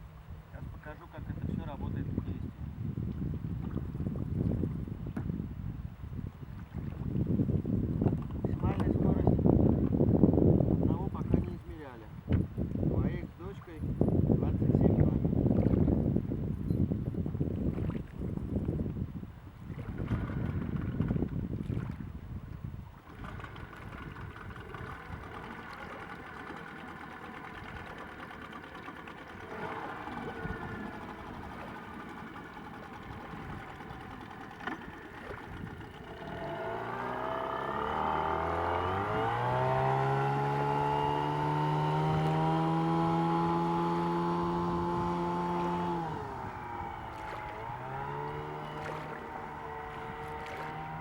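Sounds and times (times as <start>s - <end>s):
wind noise: 0.0s - 26.4s, 29.2s - 51.0s
outboard motor: 0.0s - 51.0s
water noise: 1.4s - 51.0s.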